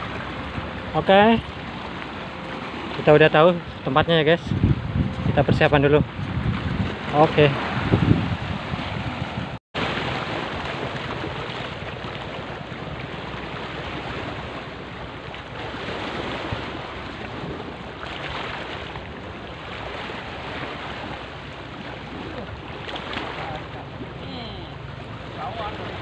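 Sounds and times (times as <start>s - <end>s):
wind on microphone: 0.0s - 24.9s
waves splashing against seawall: 0.0s - 26.0s.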